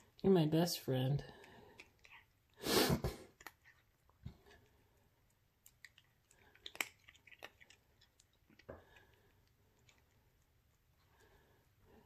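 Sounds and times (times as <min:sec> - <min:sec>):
cat chewing crunches: 0:01.2 - 0:11.5.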